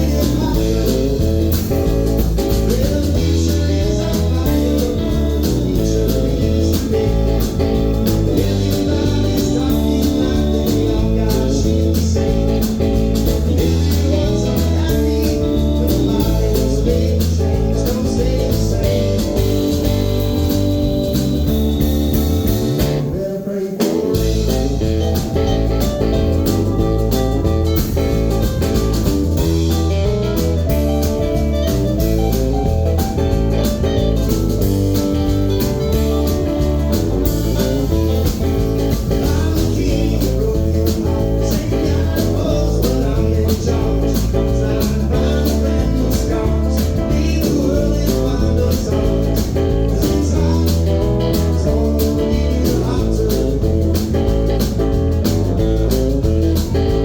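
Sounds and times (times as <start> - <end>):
electric guitar: 0.0 - 57.0
live blues band playing: 0.0 - 57.0.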